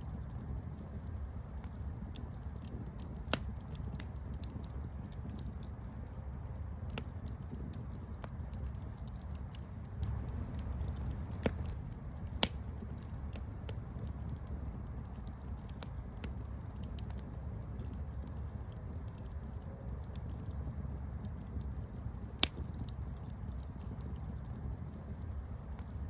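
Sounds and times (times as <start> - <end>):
campfire crackling: 0.0 - 26.0
low steady rumble: 0.0 - 26.0.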